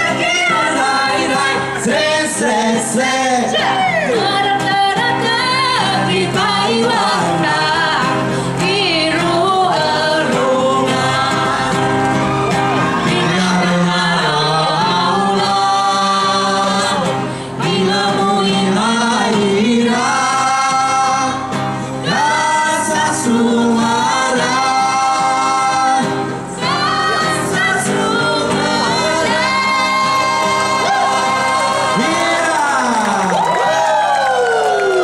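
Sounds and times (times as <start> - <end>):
group singing in harmony: 0.0 - 32.8.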